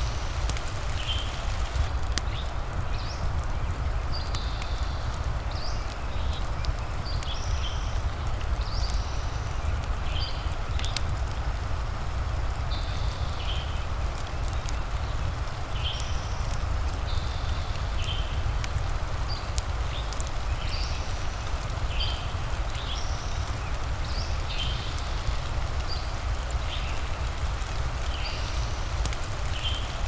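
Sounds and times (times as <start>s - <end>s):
fire crackling: 0.0s - 30.0s
rain hiss: 0.0s - 30.0s.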